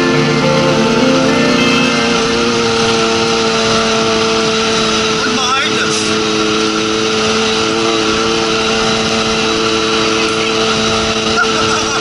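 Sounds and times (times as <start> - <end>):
engine running at cruise: 0.0 - 12.0
wind and road noise: 0.0 - 12.0.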